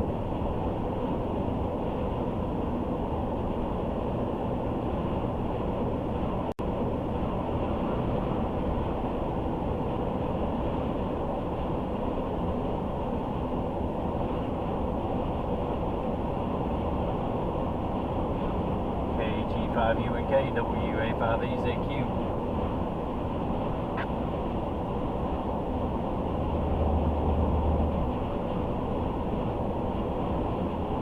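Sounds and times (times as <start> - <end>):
car road and tyre noise: 0.0 - 31.0.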